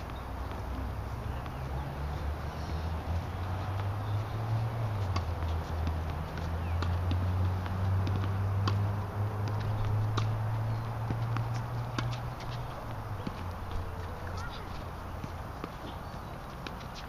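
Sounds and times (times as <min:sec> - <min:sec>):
tennis balls struck and bouncing: 0:00.0 - 0:02.3, 0:02.9 - 0:17.0.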